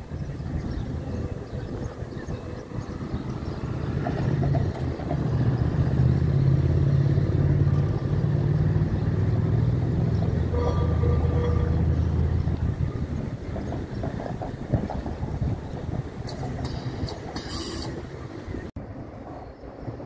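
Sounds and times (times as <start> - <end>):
tram rumbling past on rails: 0.0 - 20.0.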